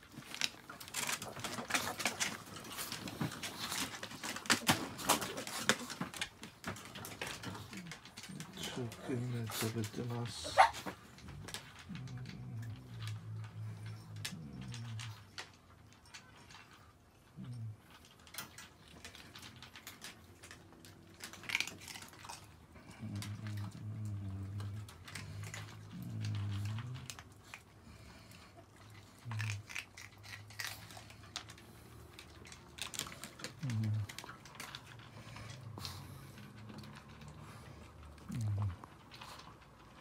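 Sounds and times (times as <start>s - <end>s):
dogs crunching dry kibble: 0.0s - 40.0s
kibble clicking against bowls: 0.0s - 40.0s.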